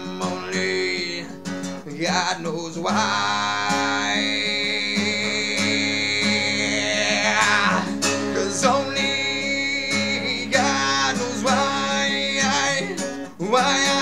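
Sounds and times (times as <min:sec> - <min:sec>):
acoustic guitar strumming: 0:00.0 - 0:14.0
man singing: 0:00.0 - 0:14.0.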